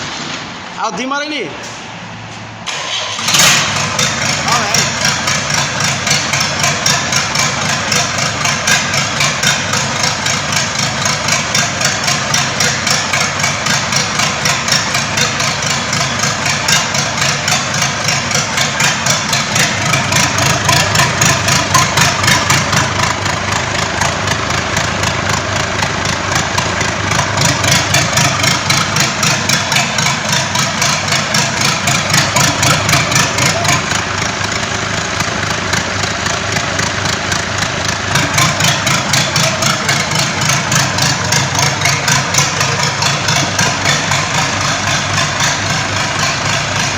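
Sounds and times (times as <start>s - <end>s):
engine idling: 2.6s - 46.9s.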